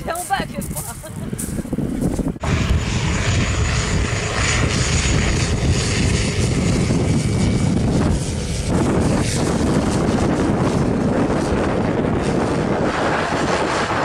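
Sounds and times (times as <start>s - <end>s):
propeller plane engine flying past: 0.0s - 14.0s.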